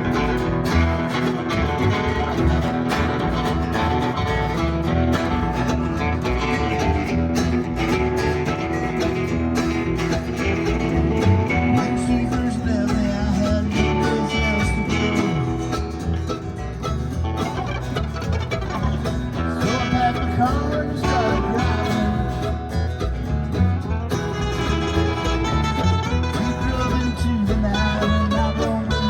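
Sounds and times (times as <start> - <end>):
bass: 0.0 - 29.0
country band playing: 0.0 - 29.0
picked string melody: 0.0 - 29.0
strummed acoustic guitar: 0.0 - 29.0.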